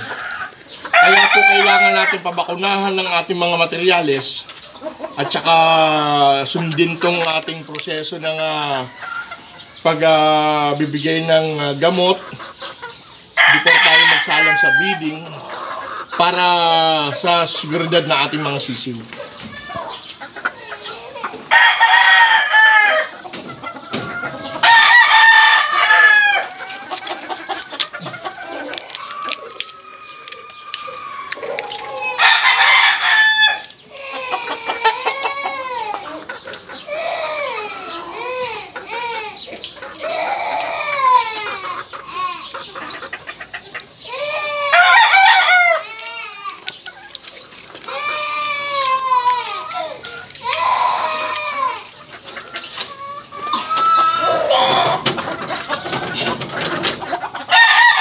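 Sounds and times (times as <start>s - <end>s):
chickens clucking: 0.0s - 58.0s
roosters crowing: 0.0s - 58.0s.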